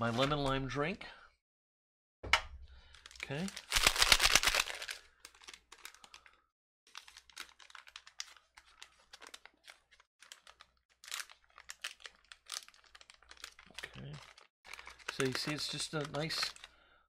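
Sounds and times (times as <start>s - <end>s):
plastic pouch crinkling: 2.8s - 16.8s.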